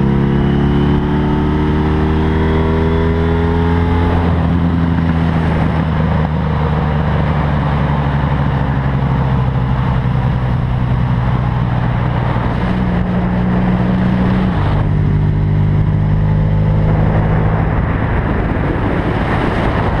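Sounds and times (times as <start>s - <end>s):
motorcycle engine running: 0.0s - 20.0s
wind rush: 0.0s - 20.0s.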